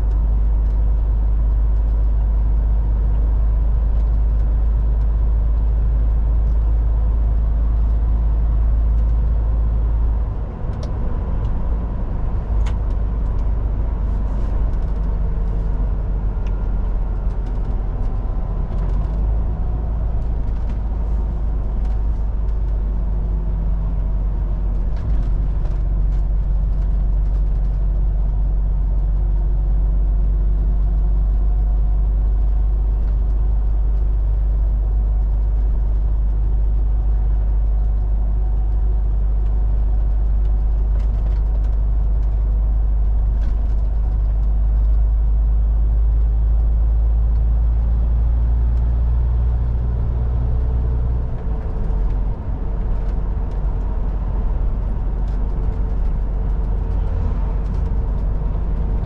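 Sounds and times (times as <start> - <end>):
road noise: 0.0 - 59.0
truck diesel engine rumble: 0.0 - 59.0.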